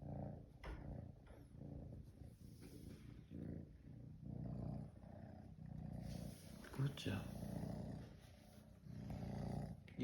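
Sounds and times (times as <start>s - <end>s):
cat purring: 0.0s - 10.0s.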